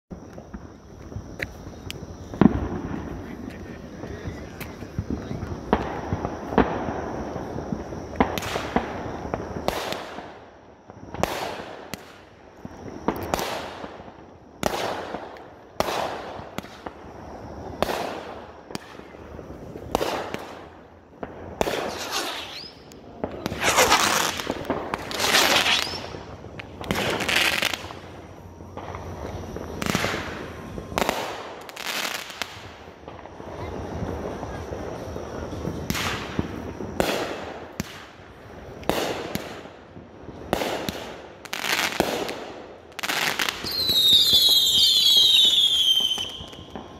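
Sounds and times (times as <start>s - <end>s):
fireworks bangs and crackling: 0.1s - 46.9s.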